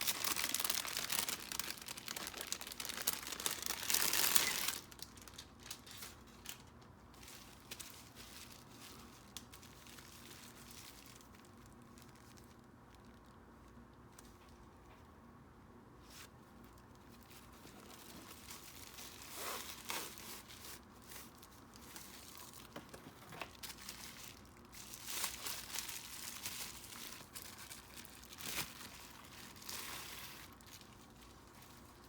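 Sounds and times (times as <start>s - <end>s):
packaging crinkling and rustling: 0.0s - 14.7s, 16.1s - 32.0s.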